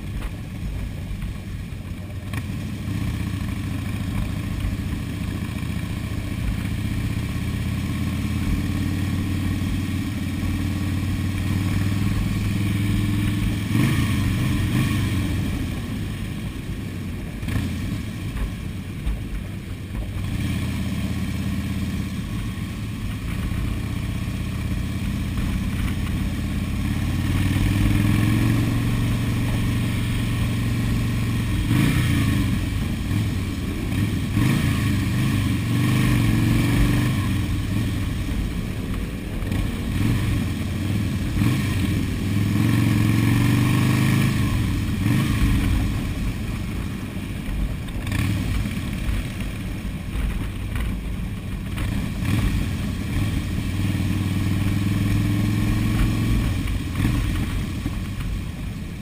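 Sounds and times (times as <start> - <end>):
motorcycle engines running: 0.0 - 59.0.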